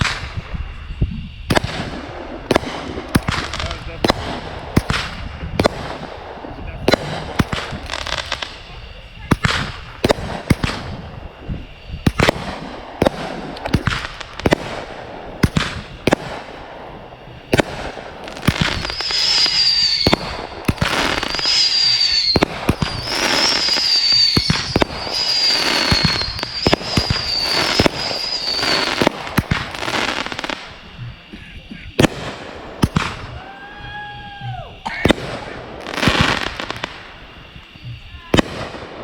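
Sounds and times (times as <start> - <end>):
crackling hiss: 0.0 - 39.0
fireworks bangs: 0.0 - 39.0
fireworks whistles: 0.0 - 39.0.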